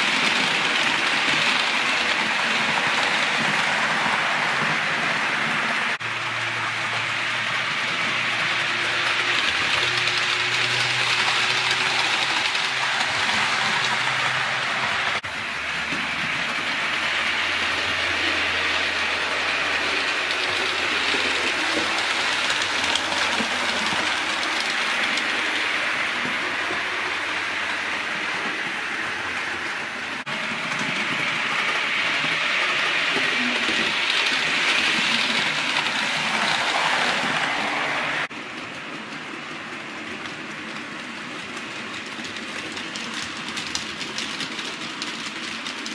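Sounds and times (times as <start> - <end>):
train wheels clickety-clack: 0.0 - 45.9.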